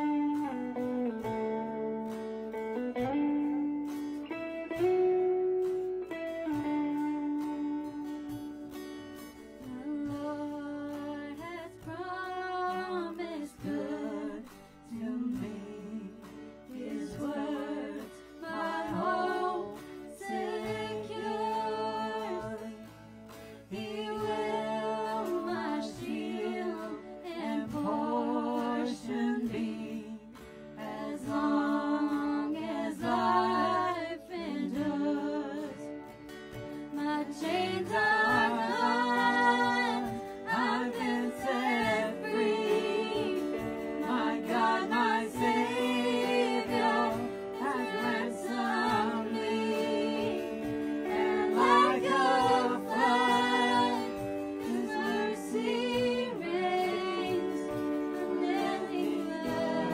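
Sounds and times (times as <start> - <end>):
person singing: 0.0 - 1.4, 9.6 - 23.0, 23.7 - 35.9, 36.9 - 59.9
electric guitars: 0.0 - 59.9.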